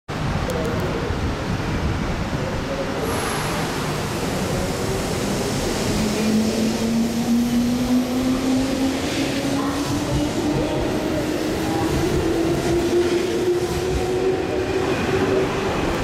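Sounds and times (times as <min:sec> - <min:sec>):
train wheels rumbling on rail: 0:00.2 - 0:16.0.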